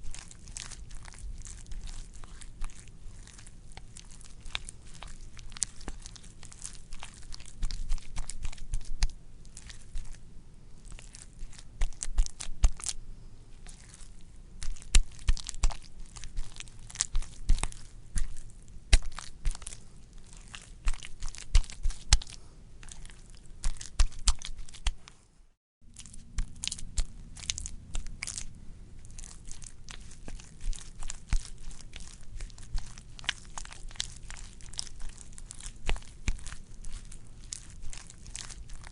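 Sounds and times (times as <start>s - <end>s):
wet squishy squelching: 0.0s - 25.2s, 25.8s - 38.9s.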